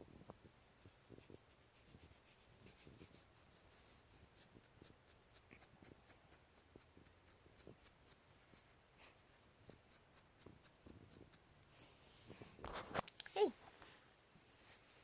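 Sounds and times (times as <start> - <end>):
scratching on hard surface: 0.8 - 14.8.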